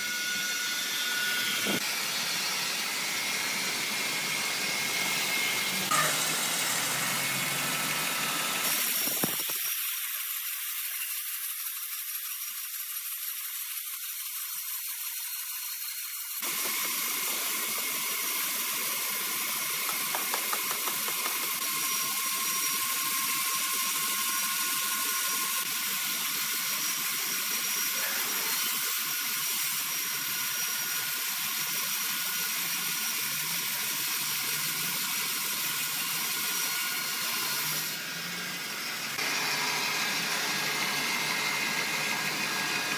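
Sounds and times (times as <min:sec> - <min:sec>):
band saw cutting log: 0:00.0 - 0:42.9.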